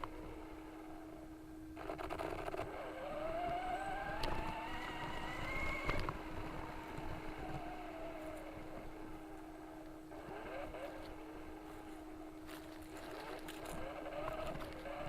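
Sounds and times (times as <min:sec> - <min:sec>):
steady low hum: 0:00.0 - 0:15.0
toy car electric motor whining: 0:01.8 - 0:15.0.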